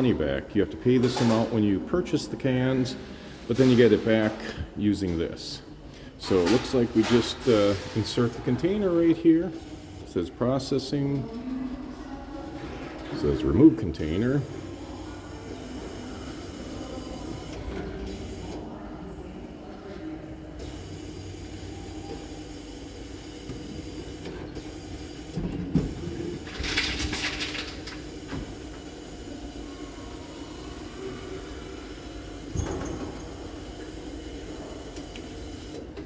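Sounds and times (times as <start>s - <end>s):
vending machine mechanical hum: 0.0s - 36.0s.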